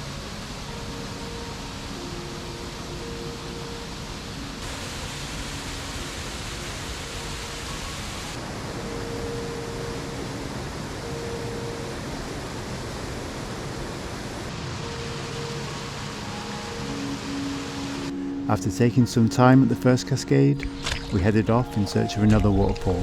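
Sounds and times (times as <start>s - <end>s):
waterfall rushing water: 0.0s - 23.0s.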